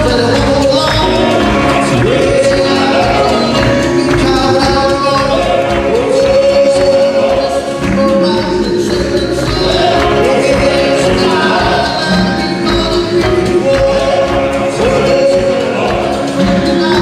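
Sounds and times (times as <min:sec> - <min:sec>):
backing music: 0:00.0 - 0:17.0
lead voice holding long note: 0:00.0 - 0:17.0
male quartet singing in harmony: 0:00.0 - 0:17.0
percussion: 0:00.0 - 0:17.0.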